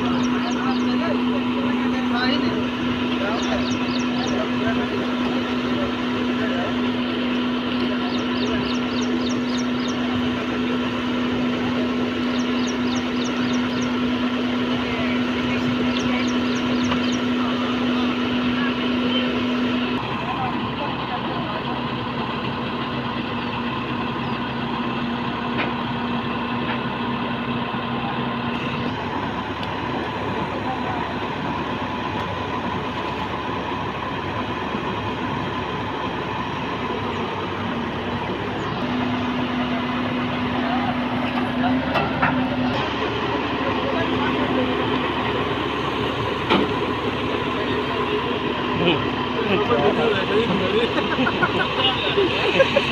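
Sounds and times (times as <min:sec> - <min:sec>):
diesel engine humming: 0:00.0 - 0:52.9.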